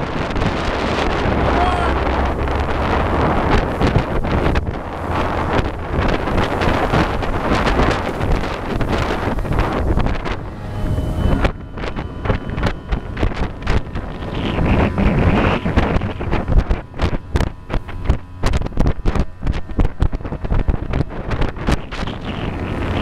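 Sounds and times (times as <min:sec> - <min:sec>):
boat motor droning: 0:00.0 - 0:23.0
wind buffeting microphone: 0:00.0 - 0:23.0.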